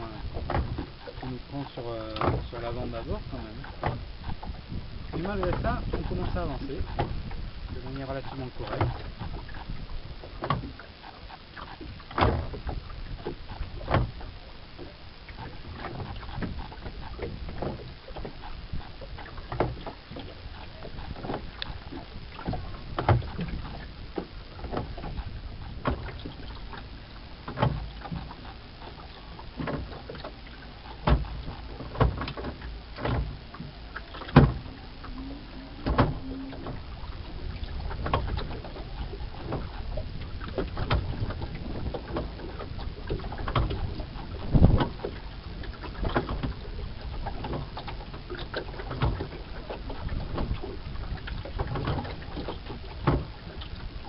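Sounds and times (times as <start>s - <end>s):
oar knocking and creaking: 0.0s - 54.0s
water wash: 0.0s - 54.0s.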